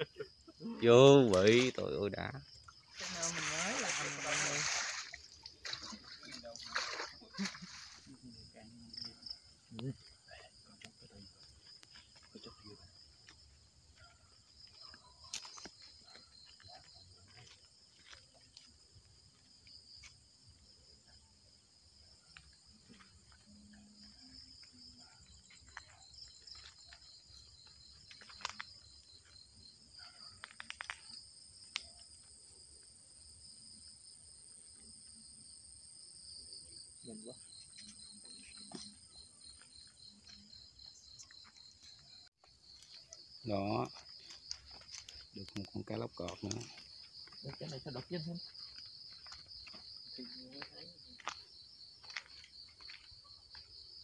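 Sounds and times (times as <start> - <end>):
night insects trilling: 0.0 - 54.0.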